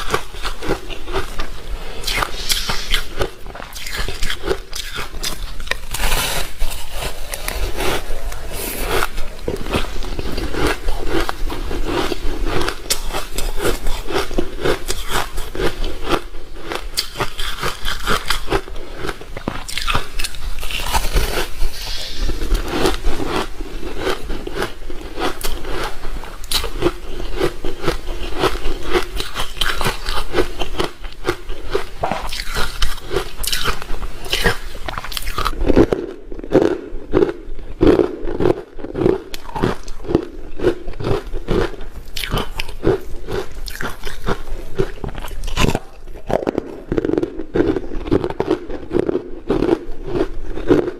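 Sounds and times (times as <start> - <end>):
ice crunching in mouth: 0.0 - 50.9.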